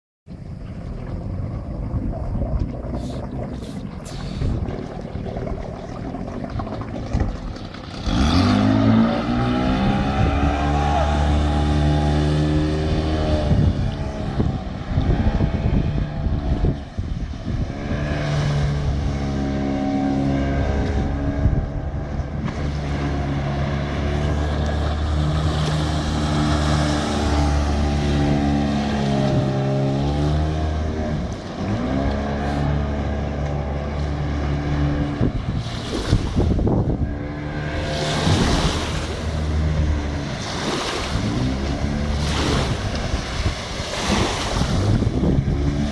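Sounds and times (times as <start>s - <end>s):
outboard motor revving: 0.4s - 45.9s.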